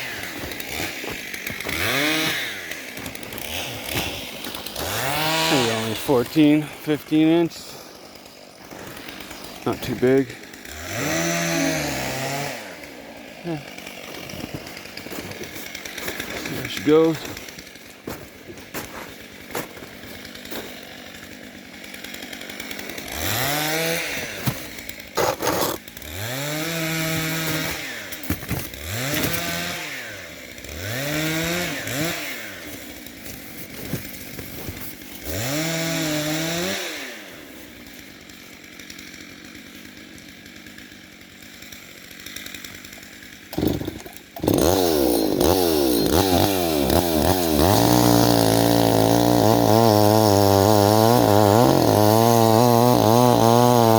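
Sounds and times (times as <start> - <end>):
chainsaw idling and revving: 0.0 - 53.9.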